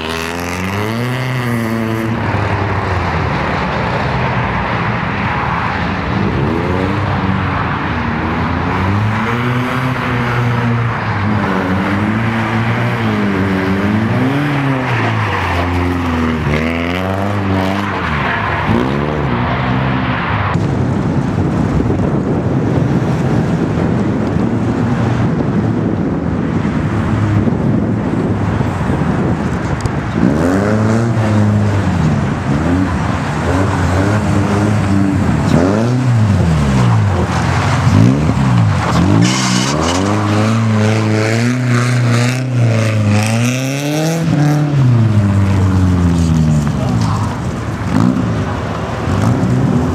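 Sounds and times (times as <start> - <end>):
rally car engine revving: 0.0 - 4.1, 5.2 - 22.2, 26.6 - 49.9
rushing noise: 0.0 - 49.9.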